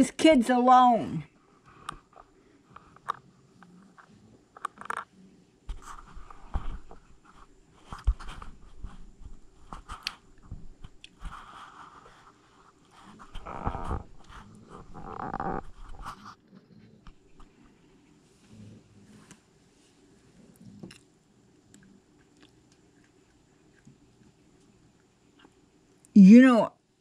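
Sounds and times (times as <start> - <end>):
animals chewing and crunching: 1.7 - 25.6.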